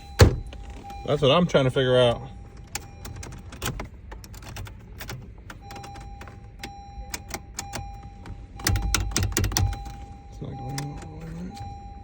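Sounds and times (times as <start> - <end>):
faint steady beep tone: 0.0 - 3.4, 5.5 - 12.0.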